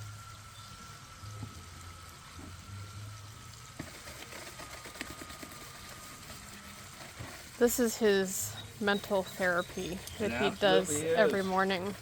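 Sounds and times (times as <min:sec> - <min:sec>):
water running: 0:01.2 - 0:12.0.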